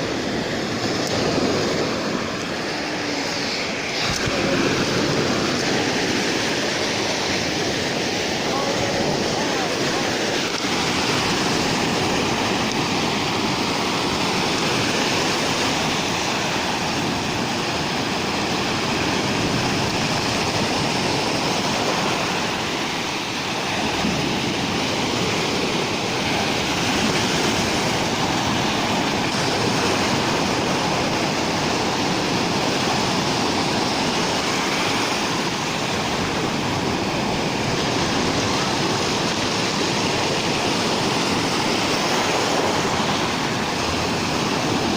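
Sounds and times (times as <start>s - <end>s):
waves breaking on shore: 0.0s - 44.9s.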